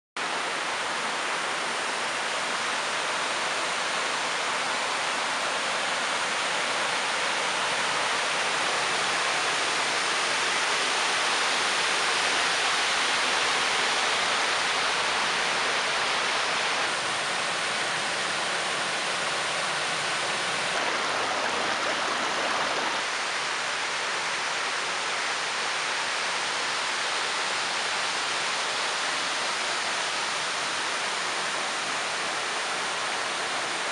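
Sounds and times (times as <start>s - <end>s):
river water rushing over stones: 0.2s - 33.9s.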